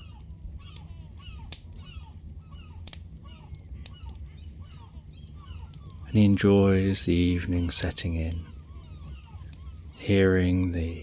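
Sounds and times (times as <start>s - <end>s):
campfire crackling and popping: 0.0s - 10.7s
bird calls: 0.0s - 11.0s.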